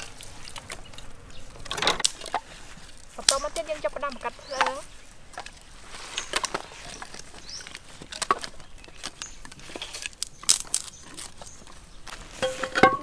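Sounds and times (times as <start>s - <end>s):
firewood sticks being handled: 0.0s - 13.0s.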